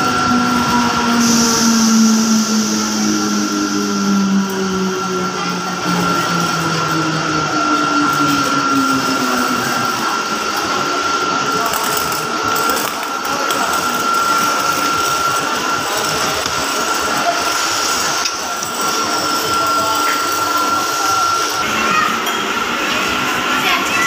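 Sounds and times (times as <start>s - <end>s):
train motors whining: 0.0s - 24.0s
train running noise: 0.0s - 24.0s.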